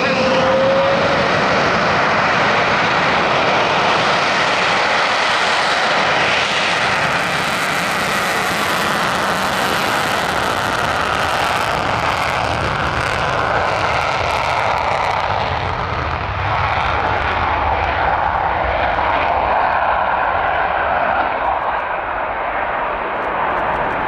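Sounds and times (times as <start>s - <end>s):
jet engines at takeoff power: 0.0s - 24.0s.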